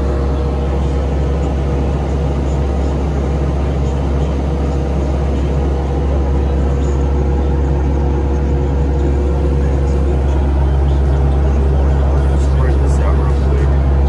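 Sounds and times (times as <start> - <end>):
diesel engine low drone: 0.0 - 14.0
steady engine whine: 0.0 - 14.0.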